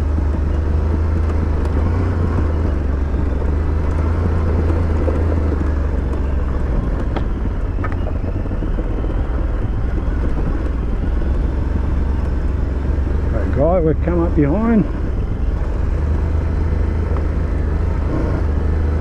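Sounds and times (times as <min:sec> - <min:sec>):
motorcycle engine running: 0:00.0 - 0:19.0
tyres rumbling on gravel: 0:00.0 - 0:19.0.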